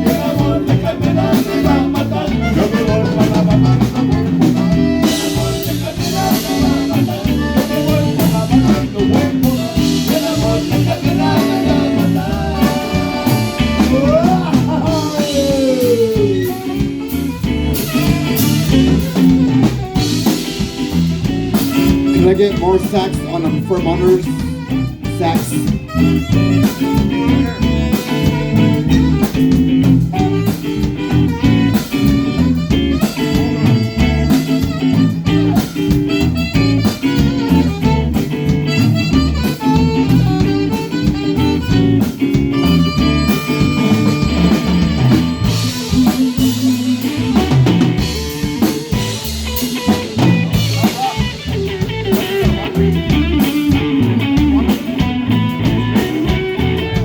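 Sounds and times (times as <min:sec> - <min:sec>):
drum kit steady beat: 0:00.0 - 0:57.0
guitar: 0:00.0 - 0:57.0
held lead melody notes: 0:00.0 - 0:57.0.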